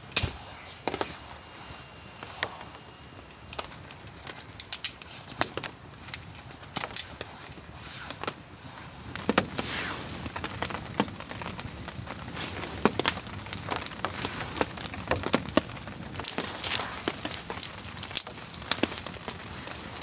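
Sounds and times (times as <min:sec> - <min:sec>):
campfire crackling and popping: 0:00.0 - 0:20.0
rain hissing: 0:00.0 - 0:20.0.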